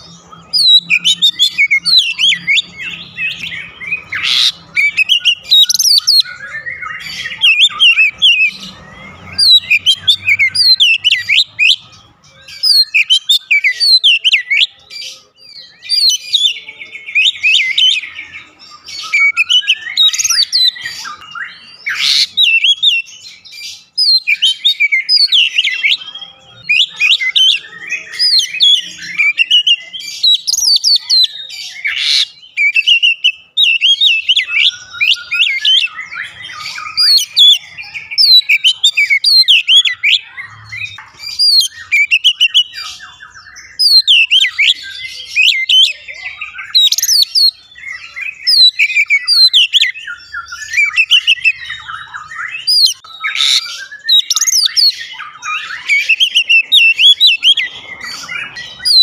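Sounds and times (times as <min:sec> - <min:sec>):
bird singing whistles and trills: 0:00.0 - 0:59.0.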